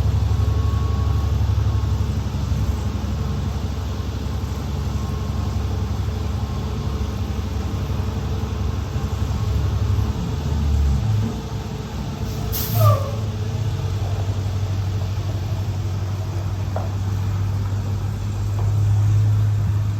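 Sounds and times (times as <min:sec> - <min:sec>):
bus engine rumbling: 0:00.0 - 0:19.9.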